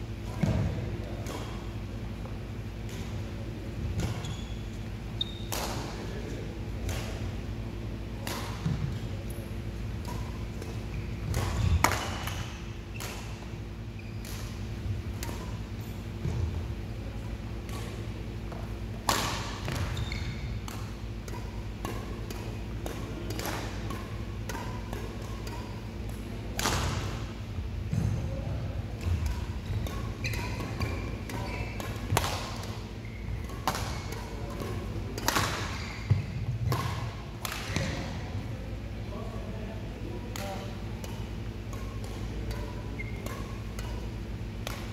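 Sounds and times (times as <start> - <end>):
rackets striking shuttlecock: 0.2 - 4.4, 5.2 - 6.1, 6.8 - 7.3, 8.0 - 13.6, 14.2 - 16.6, 17.3 - 28.2, 29.0 - 38.2, 40.3 - 44.9.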